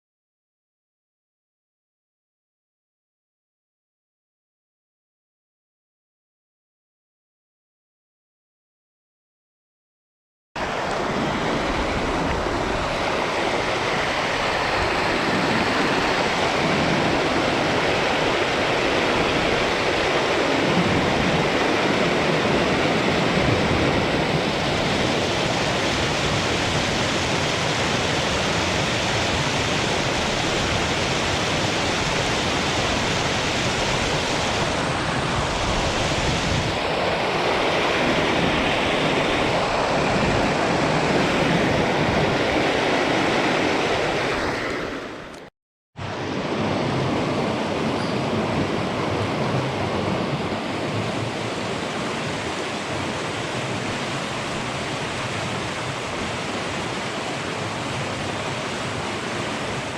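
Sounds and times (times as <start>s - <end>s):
river water rushing: 10.6s - 45.4s, 46.0s - 59.9s.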